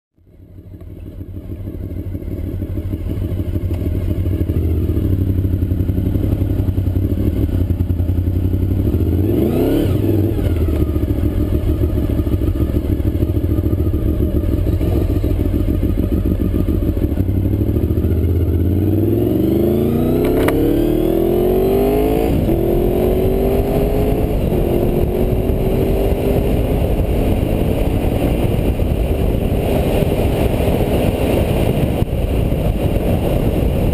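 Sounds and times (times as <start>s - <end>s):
motorcycle accelerating: 0.2s - 33.9s
motorcycle engine running: 0.2s - 33.9s.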